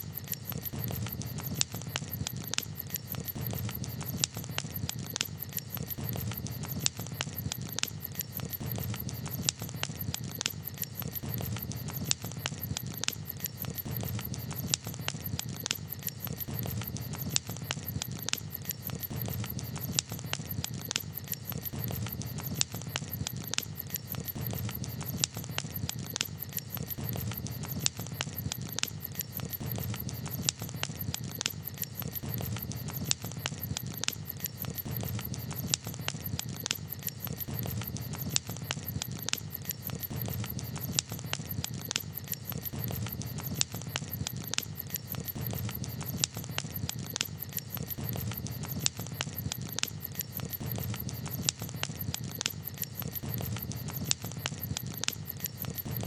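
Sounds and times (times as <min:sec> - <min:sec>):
wood campfire crackling: 0:00.0 - 0:56.0.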